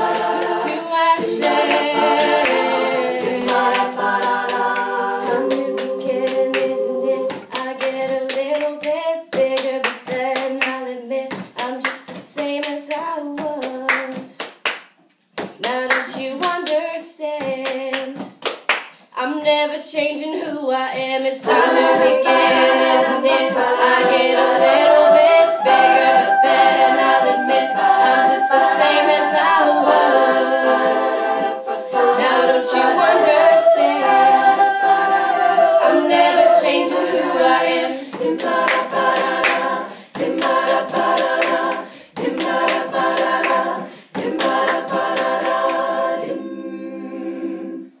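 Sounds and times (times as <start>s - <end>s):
women singing a cappella harmony: 0.0s - 14.4s, 15.6s - 18.3s, 19.2s - 48.0s.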